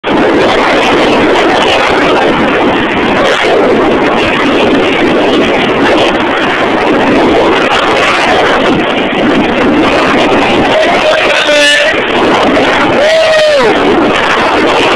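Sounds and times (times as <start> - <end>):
helicopter noise: 0.0 - 14.9
wind rushing over microphone: 0.0 - 14.9.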